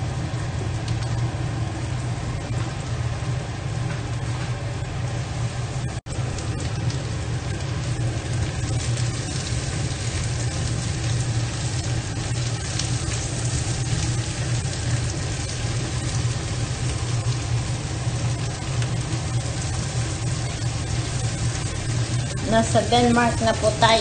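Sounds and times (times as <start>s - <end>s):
meat sizzling in a wok: 0.0s - 24.0s
steady low hum: 0.0s - 24.0s.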